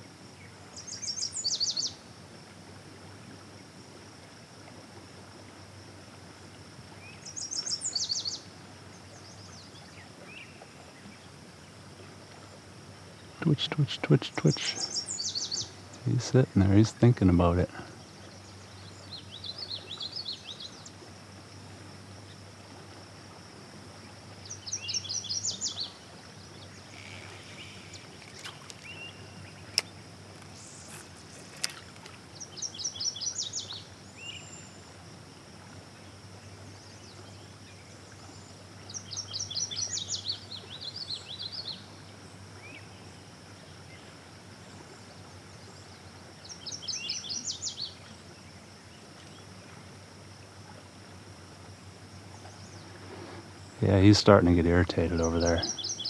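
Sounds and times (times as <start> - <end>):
songbird singing: 0.0 - 6.0, 6.8 - 56.0
low steady hum: 0.0 - 56.0.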